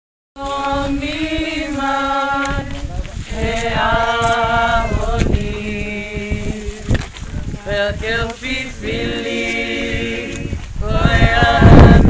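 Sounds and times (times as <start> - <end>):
group singing long notes: 0.4 - 12.0
wind buffeting microphone: 0.4 - 12.0.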